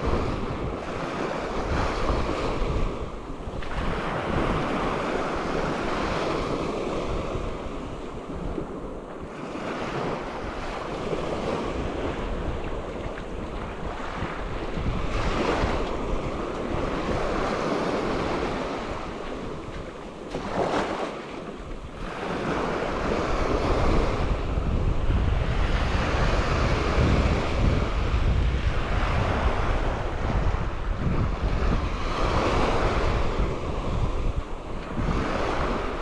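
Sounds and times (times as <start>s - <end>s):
waves breaking on beach: 0.0s - 36.0s
wind buffeting microphone: 0.0s - 36.0s.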